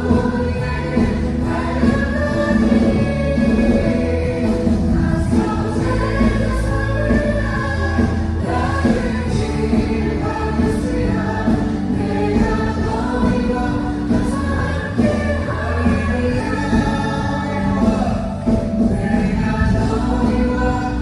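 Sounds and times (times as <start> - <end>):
choir singing worship song: 0.0 - 21.0
steady bass line: 0.0 - 21.0.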